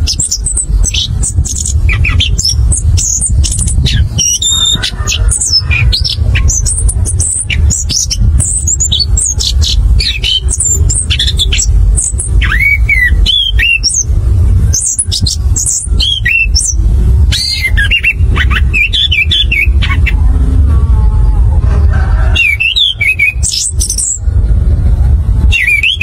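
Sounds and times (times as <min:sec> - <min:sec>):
steady low rumble: 0:00.0 - 0:26.0
thrush singing: 0:00.0 - 0:26.0.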